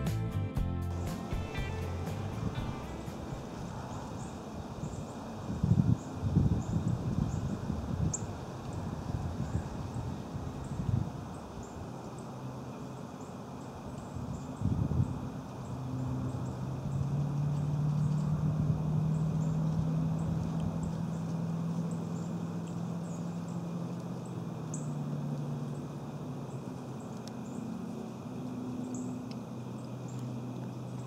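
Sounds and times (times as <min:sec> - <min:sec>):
low engine-like hum: 0:00.0 - 0:31.0.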